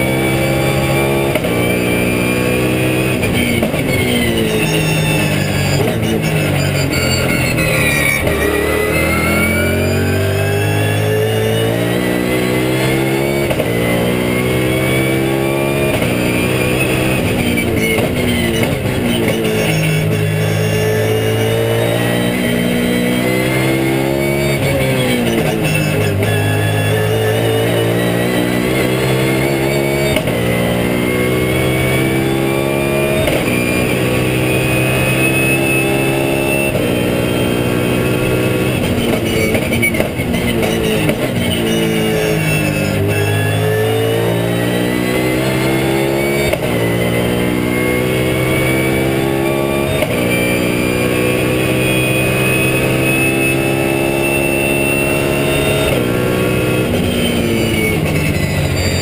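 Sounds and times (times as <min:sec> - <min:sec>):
race car engine at full throttle: 0:00.0 - 0:59.0.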